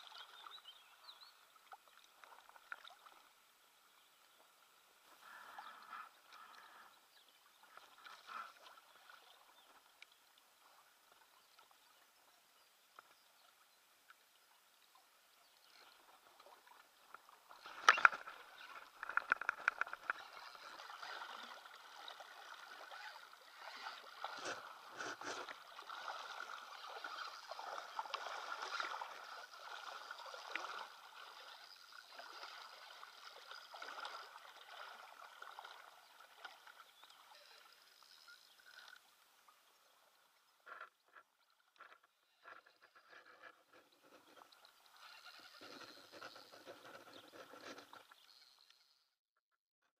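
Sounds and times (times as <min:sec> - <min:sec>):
water splashing and sloshing: 0:00.0 - 0:03.6, 0:04.3 - 0:11.8, 0:14.0 - 0:49.0.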